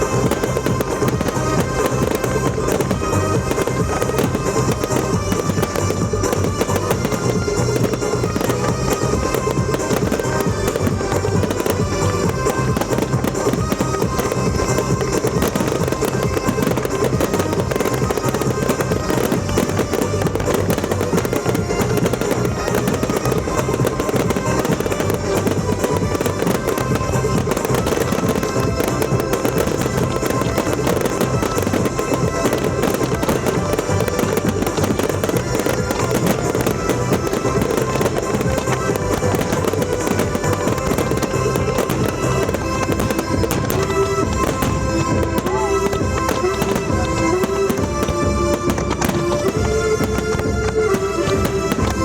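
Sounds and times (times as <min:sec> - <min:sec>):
fireworks crackling: 0:00.0 - 0:52.0
music with driving beat: 0:00.0 - 0:52.0.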